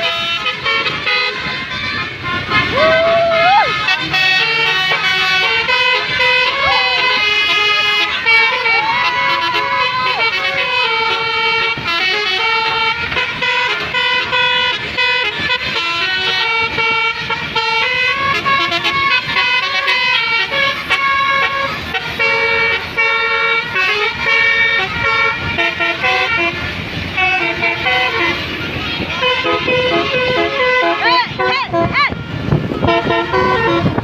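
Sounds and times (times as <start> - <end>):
multi-tone bus air horns melody: 0.0 - 34.0.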